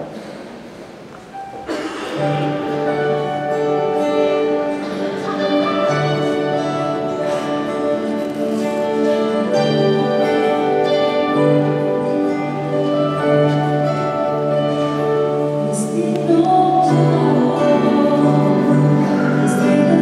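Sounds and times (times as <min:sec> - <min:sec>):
keyboard chords: 0:01.2 - 0:20.0
acoustic guitar chords: 0:01.3 - 0:20.0.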